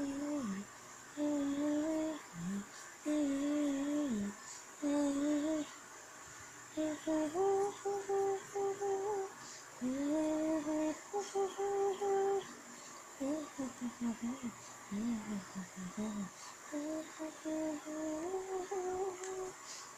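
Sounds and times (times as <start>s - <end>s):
person humming: 0.0s - 0.6s, 1.2s - 5.7s, 6.8s - 12.5s, 13.2s - 19.6s.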